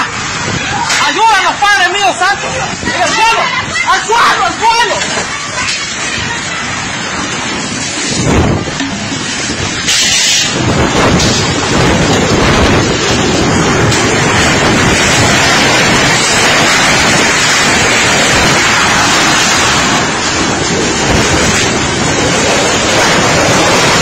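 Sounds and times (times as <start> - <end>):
tornado winds rushing: 0.0 - 24.0
wind buffeting microphone: 0.0 - 24.0.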